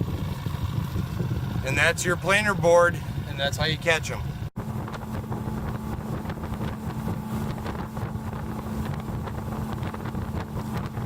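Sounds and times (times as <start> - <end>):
boat motor humming: 0.0 - 11.0
wind buffeting microphone: 0.0 - 11.0.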